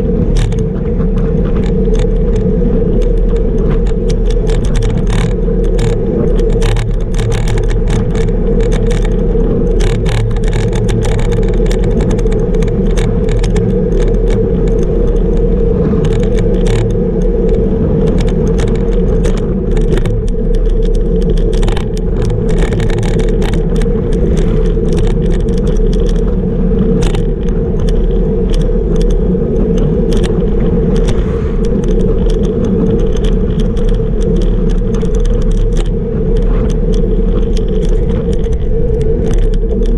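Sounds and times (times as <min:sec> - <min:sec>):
bike rattles and clicks: 0:00.0 - 0:39.9
tyre and road rumble: 0:00.0 - 0:39.9
wind rush on microphone: 0:00.0 - 0:39.9.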